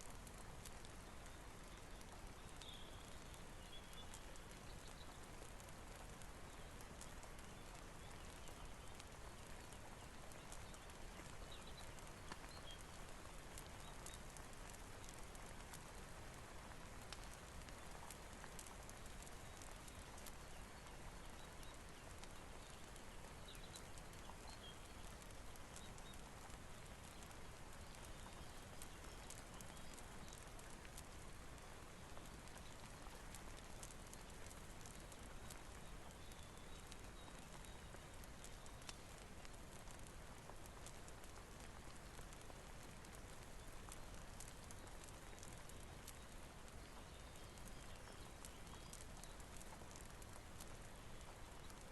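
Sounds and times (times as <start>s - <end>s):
fire crackling: 0.0s - 51.9s
steady rain hiss: 0.0s - 51.9s.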